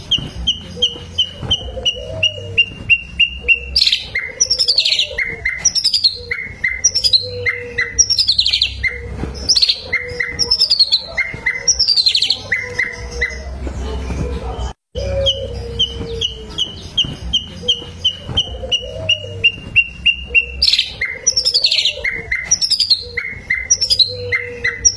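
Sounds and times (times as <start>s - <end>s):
bird song chirps and trills: 0.0s - 24.9s.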